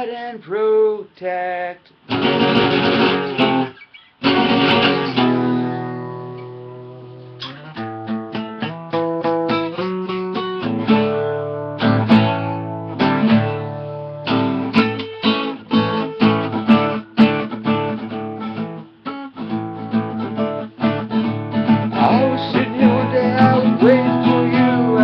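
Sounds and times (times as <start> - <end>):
acoustic guitar strumming chords: 2.0 - 25.0.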